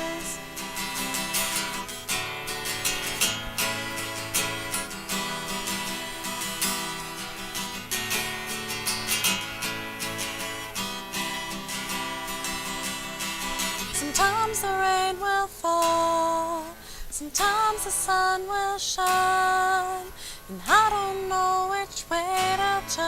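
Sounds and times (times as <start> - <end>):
acoustic guitar strummed: 0.0 - 23.0.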